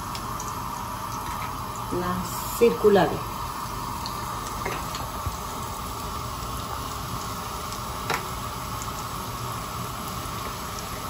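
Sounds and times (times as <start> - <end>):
oil sizzling and bubbling: 0.0 - 11.0.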